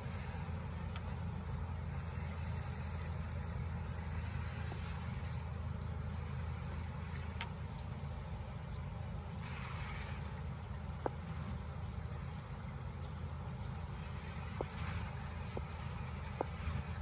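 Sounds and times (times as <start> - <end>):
creek water rushing: 0.0 - 17.0
low uneven rumble: 0.0 - 17.0.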